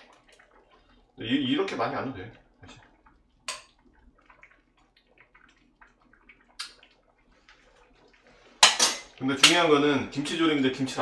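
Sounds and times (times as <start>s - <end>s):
pot simmering with bubbling pops: 0.0s - 11.0s.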